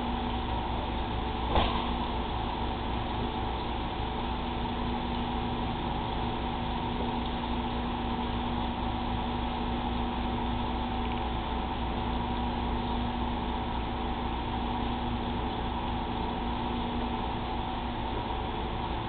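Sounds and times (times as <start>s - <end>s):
steady hum and hiss: 0.0s - 19.0s.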